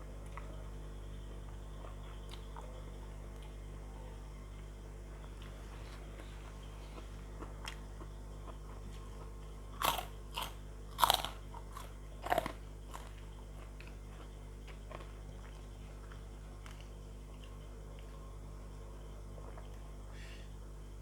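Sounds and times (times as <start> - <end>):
crunching crisp fried food: 0.0 - 20.1.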